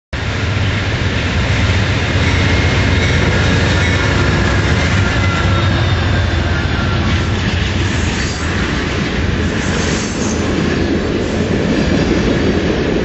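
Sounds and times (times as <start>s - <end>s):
train rumbling past: 0.2s - 13.0s.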